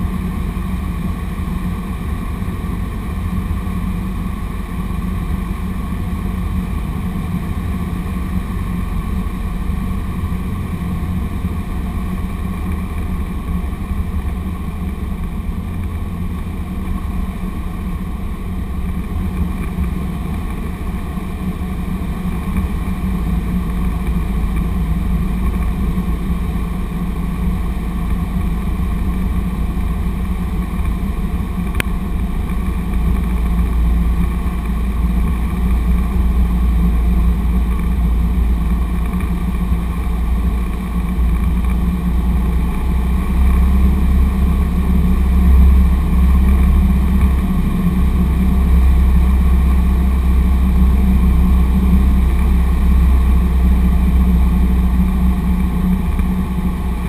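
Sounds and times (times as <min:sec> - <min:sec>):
light aircraft engine drone: 0:00.0 - 0:57.0
low rumble: 0:00.0 - 0:57.0.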